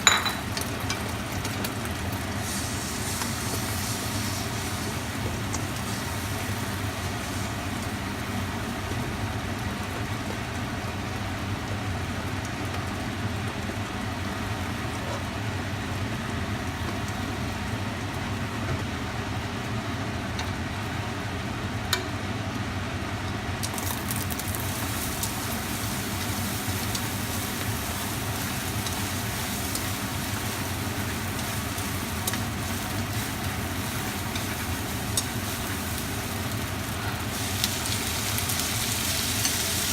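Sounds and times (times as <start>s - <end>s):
stir-fry sizzling in a pan: 0.0s - 39.9s.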